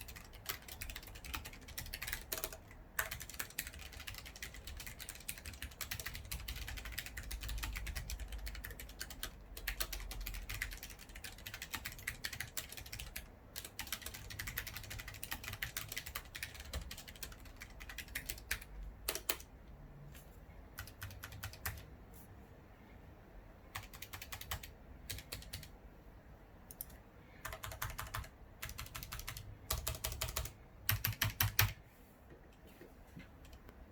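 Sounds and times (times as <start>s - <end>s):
mechanical keyboard typing: 0.0s - 19.5s, 20.8s - 21.9s, 23.7s - 25.7s, 26.7s - 31.8s.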